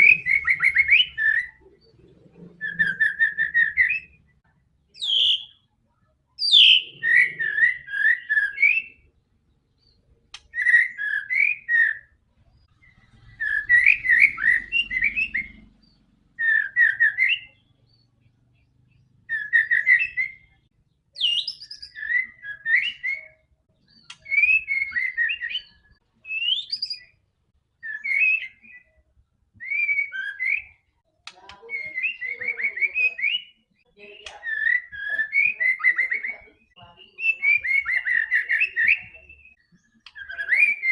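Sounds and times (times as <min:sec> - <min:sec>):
bird singing whistled notes: 0:00.0 - 0:04.4, 0:05.0 - 0:05.7, 0:06.4 - 0:27.2, 0:27.8 - 0:40.9.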